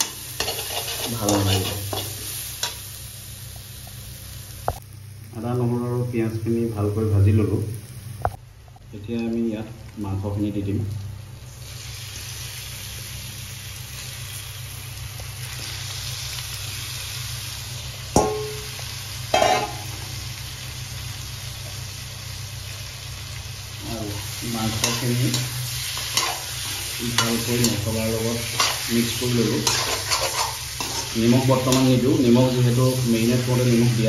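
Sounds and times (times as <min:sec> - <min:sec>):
meat sizzling in hot oil: 0:00.0 - 0:08.4, 0:10.9 - 0:34.0.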